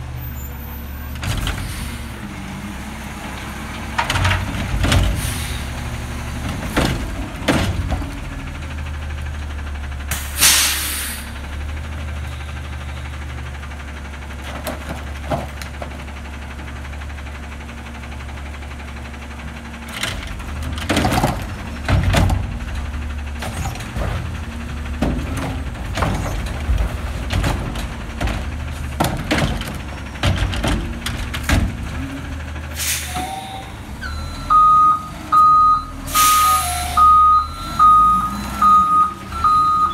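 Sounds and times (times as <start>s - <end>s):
garbage truck diesel engine running: 0.0s - 39.9s.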